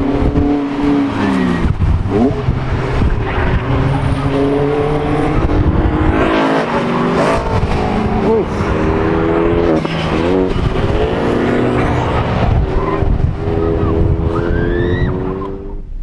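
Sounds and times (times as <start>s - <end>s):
cars revving past: 0.0s - 15.8s.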